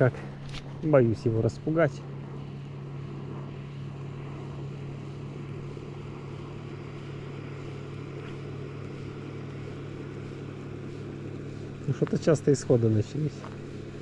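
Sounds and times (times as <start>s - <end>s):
low motor-like hum: 0.0s - 14.0s.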